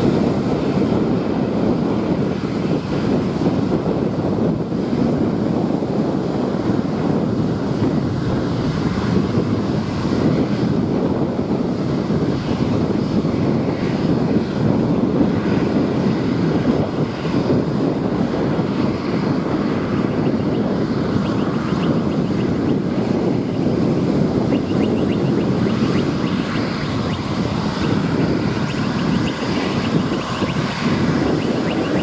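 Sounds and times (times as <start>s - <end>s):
jet engines running: 0.0s - 32.0s
wind buffeting microphone: 0.0s - 32.0s.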